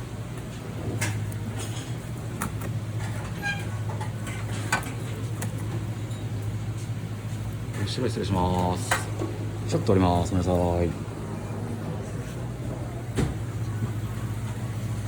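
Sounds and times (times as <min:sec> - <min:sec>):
kitchen equipment humming: 0:00.0 - 0:15.0.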